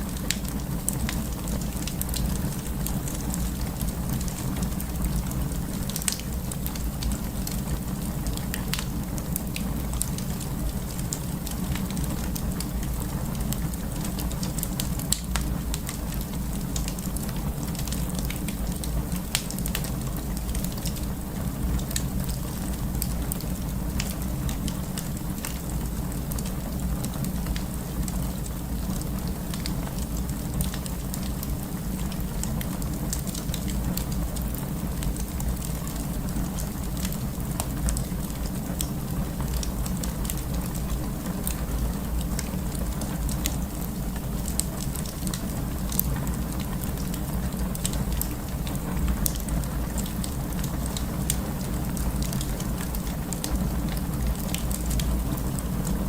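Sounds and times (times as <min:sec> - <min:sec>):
crackles and pops of burning wood: 0:00.0 - 0:56.0
wood fire rumble: 0:00.0 - 0:56.0.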